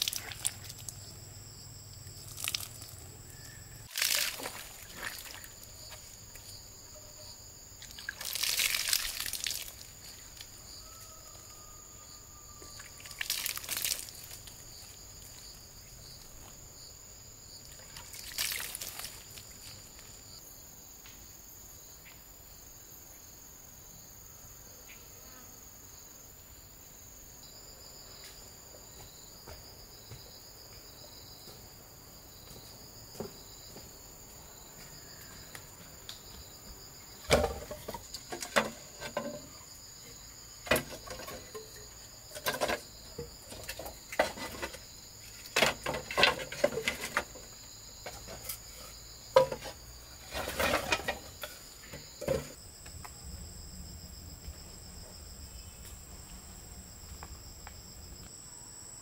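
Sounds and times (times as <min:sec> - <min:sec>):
pulsing insect call: 0:00.0 - 0:20.7, 0:32.4 - 0:59.0
insects chirring: 0:00.0 - 0:59.0.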